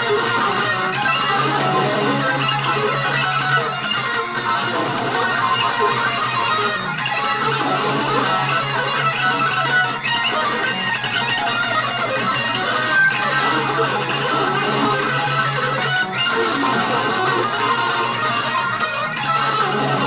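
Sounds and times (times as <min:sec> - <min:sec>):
electric guitar heavy metal: 0:00.0 - 0:20.0.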